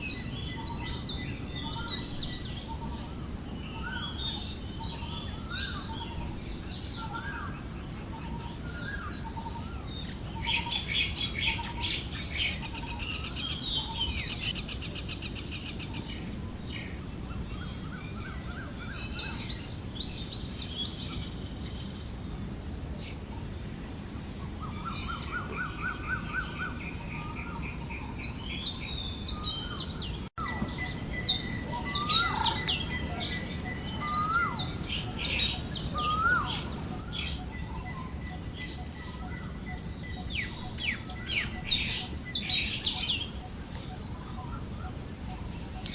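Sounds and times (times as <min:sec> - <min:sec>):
birds chirping and trilling: 0:00.0 - 0:45.9.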